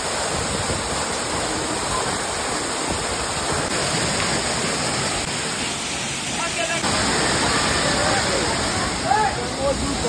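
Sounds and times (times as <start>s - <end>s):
waterfall rushing and splashing: 0.0s - 10.0s.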